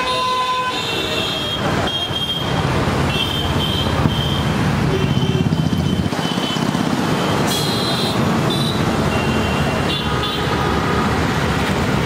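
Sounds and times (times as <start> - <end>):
busy road traffic rumble: 0.0 - 12.0.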